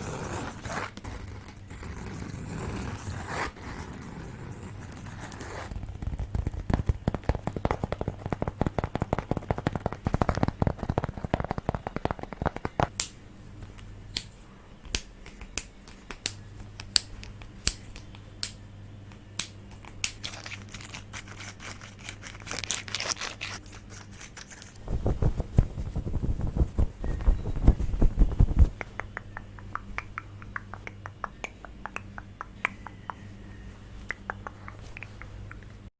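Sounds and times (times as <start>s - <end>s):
faint low hum: 0.0s - 35.9s.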